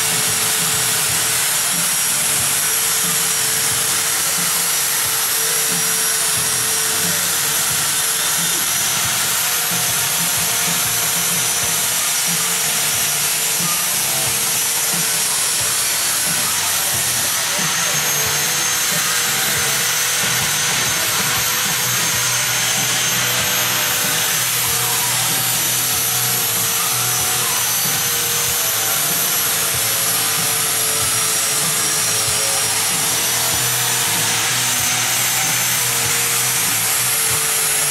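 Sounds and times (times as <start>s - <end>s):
angle grinder grinding steel: 0.0s - 37.9s.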